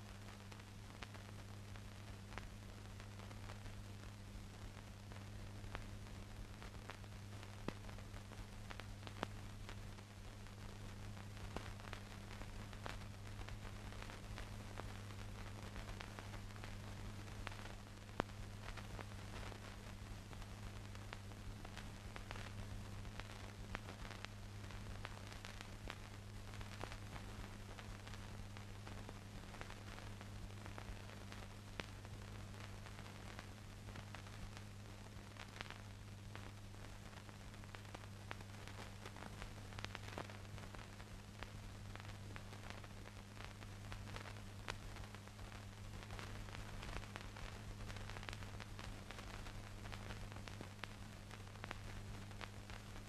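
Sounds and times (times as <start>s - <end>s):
film soundtrack hiss and crackle: 0.0s - 53.0s
steady low hum: 0.0s - 53.0s.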